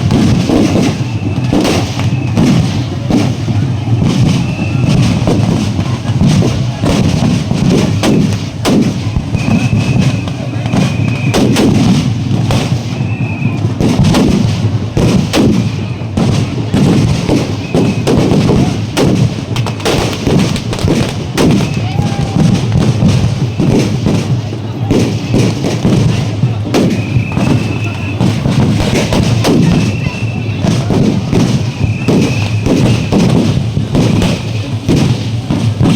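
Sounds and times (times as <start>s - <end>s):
crowd noise: 0.0s - 35.9s
fast procession drumming: 0.0s - 35.9s.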